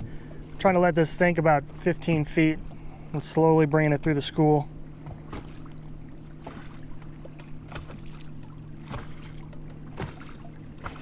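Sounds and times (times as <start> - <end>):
low electric hum: 0.0 - 11.0
waves lapping against boat hull: 0.0 - 11.0.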